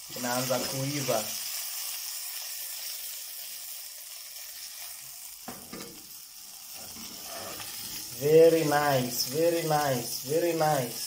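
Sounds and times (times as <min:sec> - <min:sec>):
burger patty sizzling in pan: 0:00.0 - 0:11.0.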